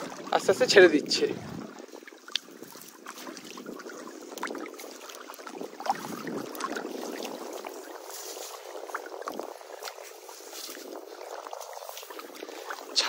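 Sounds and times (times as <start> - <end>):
water lapping and sloshing: 0.0 - 13.0
water splashes and drips: 0.0 - 13.0.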